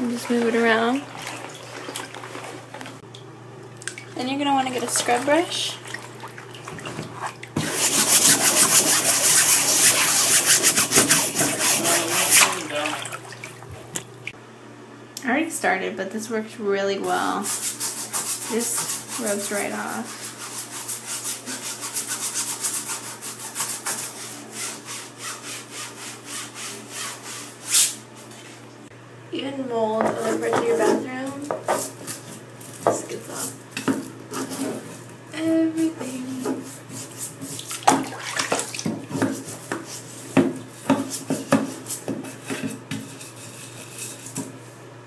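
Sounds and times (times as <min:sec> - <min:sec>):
scrub brush scrubbing curtain: 0:00.0 - 0:02.8, 0:04.3 - 0:13.4, 0:17.3 - 0:28.6, 0:30.2 - 0:35.1, 0:35.8 - 0:44.8.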